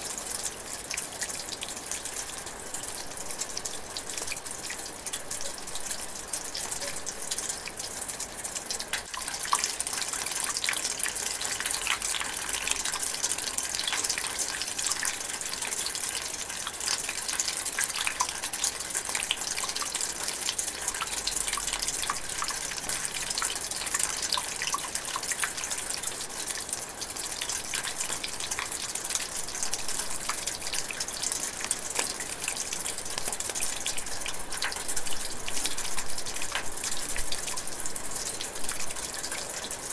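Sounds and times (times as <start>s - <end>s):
light rain drizzling: 0.0s - 39.9s.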